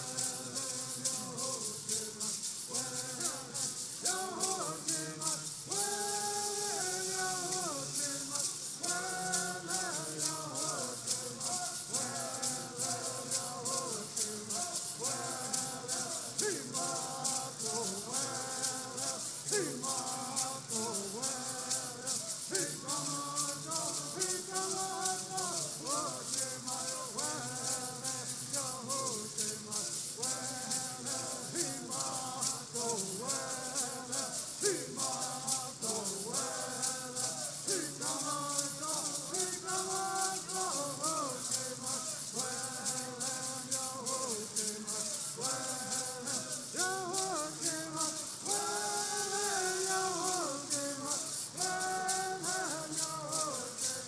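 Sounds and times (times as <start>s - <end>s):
gourd rattles shaking: 0.0s - 54.0s
voices singing: 0.0s - 54.0s.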